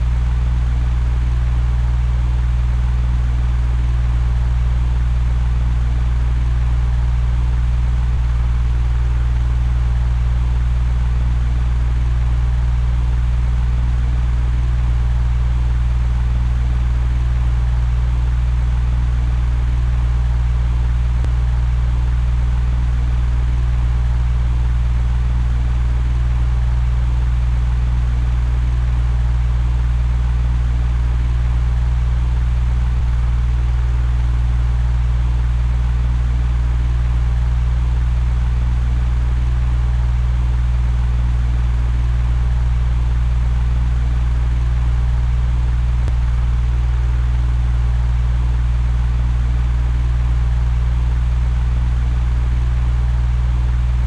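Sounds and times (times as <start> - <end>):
electric fan running: 0.0 - 51.7.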